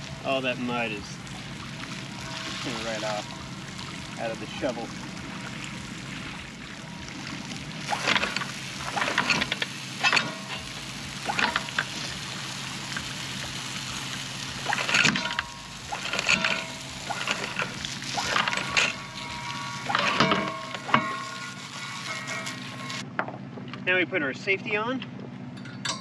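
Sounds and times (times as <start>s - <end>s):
hose spraying water jet: 0.0s - 23.0s
water splattering on metal: 0.0s - 23.0s.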